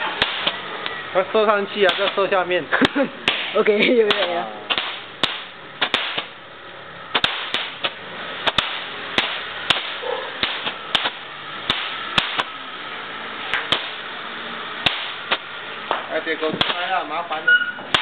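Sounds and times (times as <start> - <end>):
fireworks cracking: 0.0 - 18.0
steady hiss: 0.0 - 18.0.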